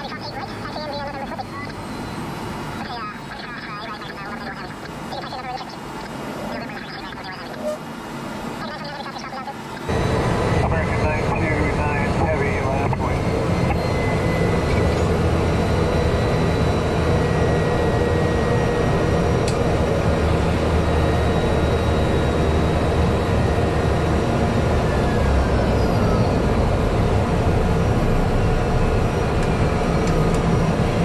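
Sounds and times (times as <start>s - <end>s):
high turbine whine: 0.0s - 31.0s
propeller engine drone: 0.0s - 31.0s.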